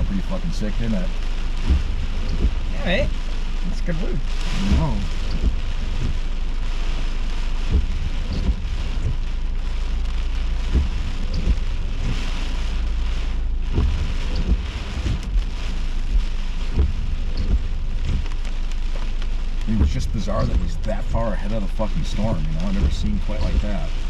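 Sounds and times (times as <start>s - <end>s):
low thumps: 0.0s - 24.0s
steady rain: 0.0s - 24.0s
wind: 0.0s - 24.0s.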